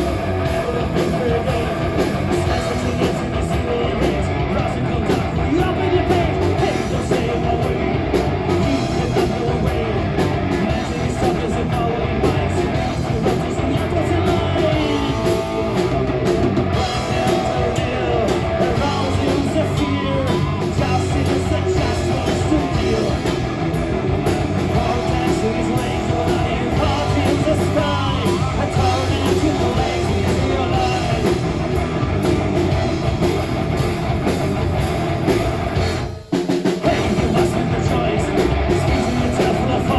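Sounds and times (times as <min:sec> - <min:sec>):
person singing: 0:00.0 - 0:31.6, 0:36.8 - 0:39.9
drum kit: 0:00.0 - 0:39.9
electric guitars: 0:00.0 - 0:39.9.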